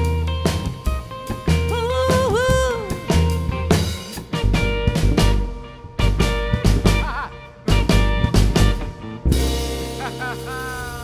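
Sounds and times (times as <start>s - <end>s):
drums: 0.0s - 11.0s
electric guitar: 0.0s - 11.0s.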